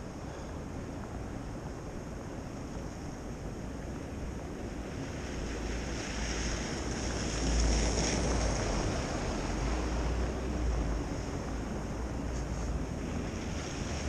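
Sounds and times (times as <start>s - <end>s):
street noise: 0.0s - 14.0s
wind buffeting microphone: 0.0s - 14.0s.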